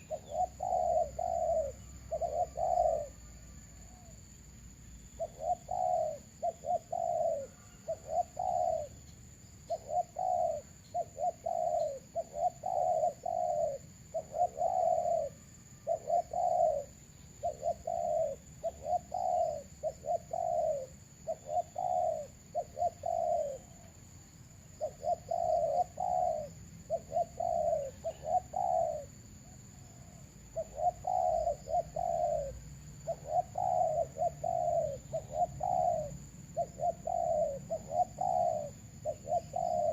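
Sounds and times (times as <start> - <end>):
doves cooing: 0.0 - 3.3, 5.2 - 9.0, 9.7 - 24.0, 24.7 - 39.9.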